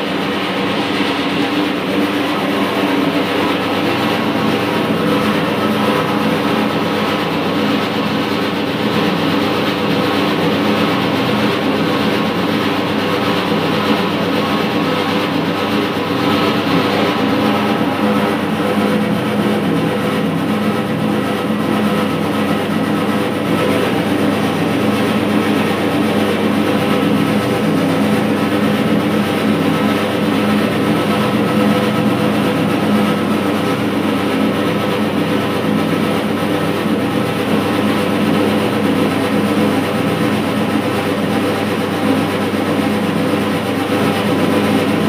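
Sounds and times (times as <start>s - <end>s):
dough kneader motor droning: 0.0s - 45.0s.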